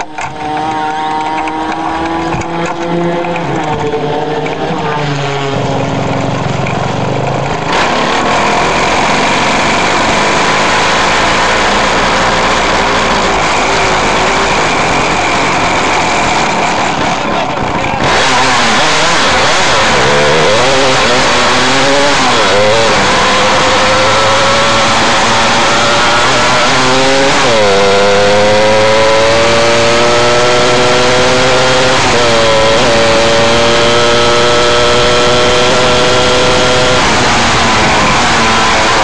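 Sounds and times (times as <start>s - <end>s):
race car engine: 0.0s - 39.0s.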